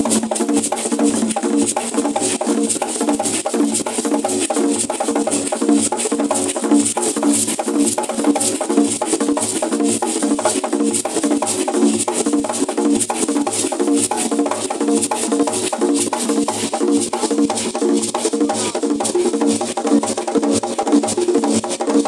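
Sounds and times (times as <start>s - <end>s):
fast rhythmic drumming: 0.0s - 22.0s.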